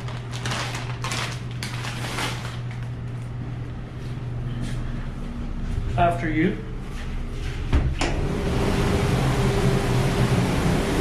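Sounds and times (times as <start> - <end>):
shop background hum: 0.0 - 11.0.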